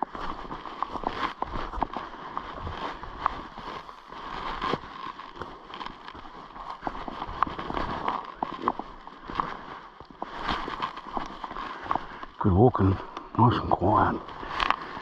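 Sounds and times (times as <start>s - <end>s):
crackling footsteps: 0.0s - 15.0s.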